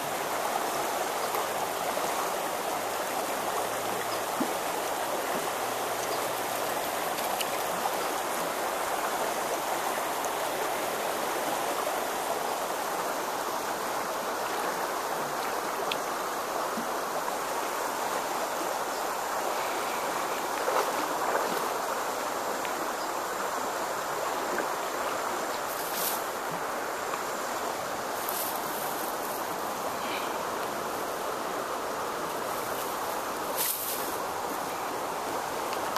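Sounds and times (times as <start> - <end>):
river water running over rocks: 0.0 - 35.9.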